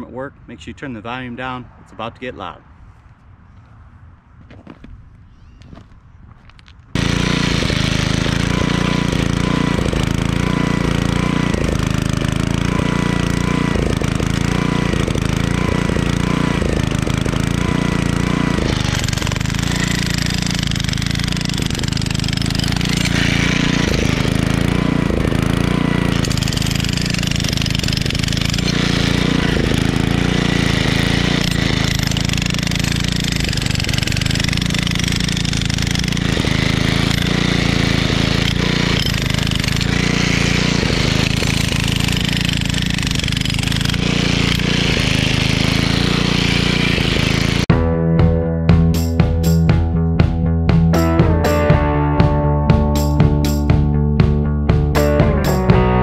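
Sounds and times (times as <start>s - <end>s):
jackhammer hammering concrete: 7.0s - 47.7s, 50.9s - 56.0s
generator engine running: 7.0s - 56.0s.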